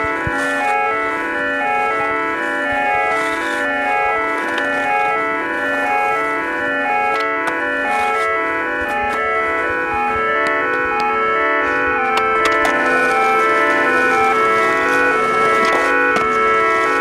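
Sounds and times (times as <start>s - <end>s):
sustained organ chords: 0.0s - 17.0s.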